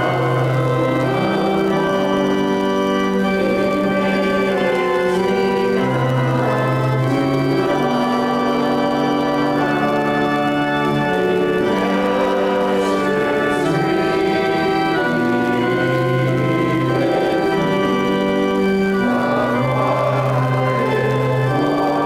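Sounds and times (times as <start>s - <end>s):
church organ playing a hymn: 0.0s - 22.0s.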